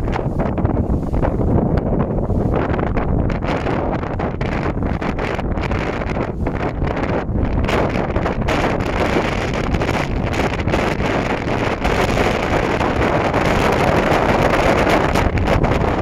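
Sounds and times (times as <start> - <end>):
boat moving through water: 0.0 - 16.0
wind buffeting microphone: 0.0 - 16.0.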